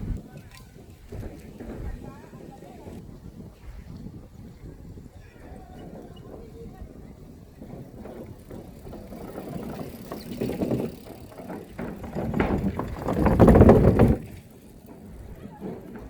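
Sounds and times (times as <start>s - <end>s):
bicycle rattling rumble: 0.0s - 16.0s.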